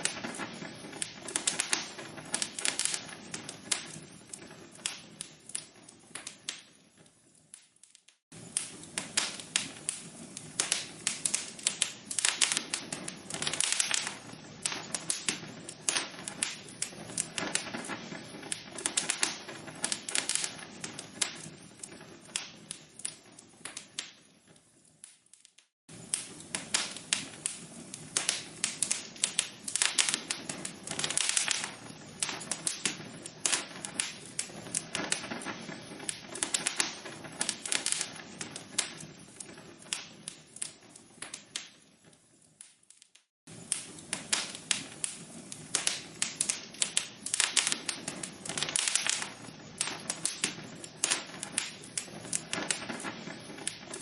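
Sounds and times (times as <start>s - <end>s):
burning logs crackling and popping: 0.0s - 54.0s.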